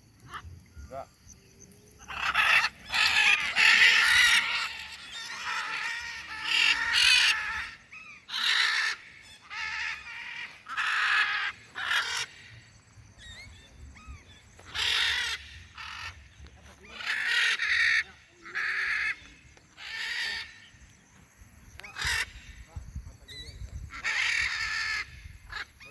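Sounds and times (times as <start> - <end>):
bird giving harsh raspy calls: 2.0 - 12.6, 13.2 - 20.8, 21.8 - 22.6, 23.9 - 25.8.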